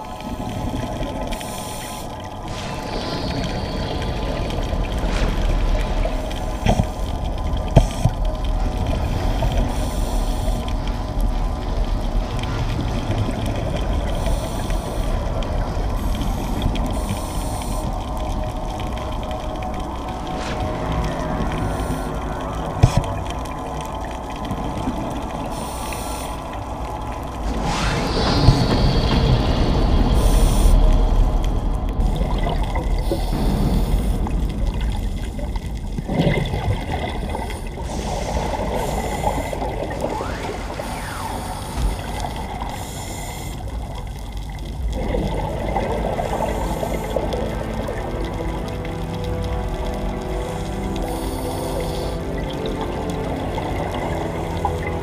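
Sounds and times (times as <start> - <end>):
scuba exhaust bubbles: 0.0 - 55.0
underwater low rumble: 0.0 - 55.0.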